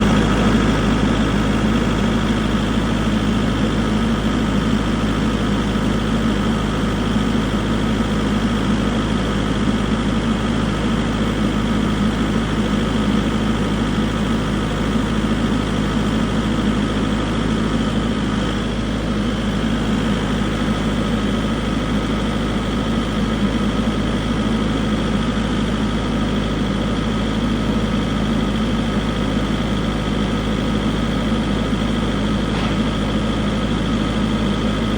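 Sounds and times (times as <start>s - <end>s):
excavator diesel engine droning: 0.0s - 34.9s.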